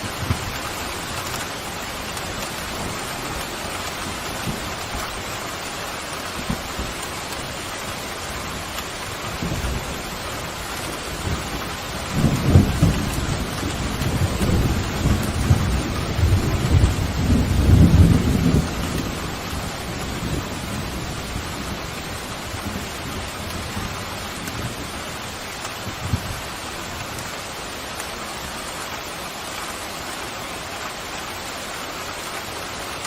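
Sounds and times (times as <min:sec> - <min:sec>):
thunder rumbling and crackling: 0:00.0 - 0:28.6
heavy rain hissing: 0:00.0 - 0:33.0.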